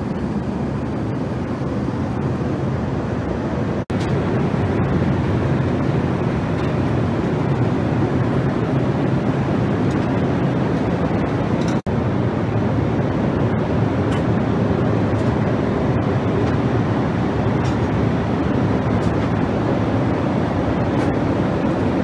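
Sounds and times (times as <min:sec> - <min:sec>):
airflow and engine noise in cabin: 0:00.0 - 0:22.0.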